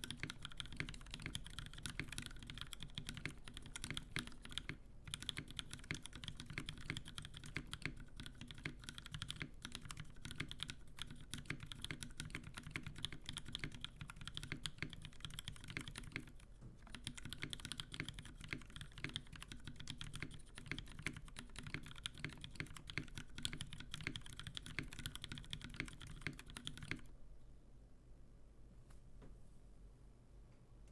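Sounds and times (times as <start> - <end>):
mechanical keyboard typing: 0.0 - 27.1.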